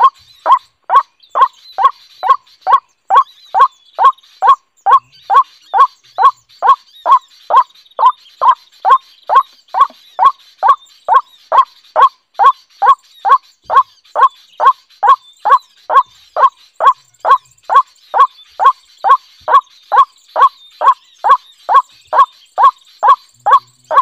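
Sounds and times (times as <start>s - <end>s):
bird croak from a speaker: 0.0s - 24.0s.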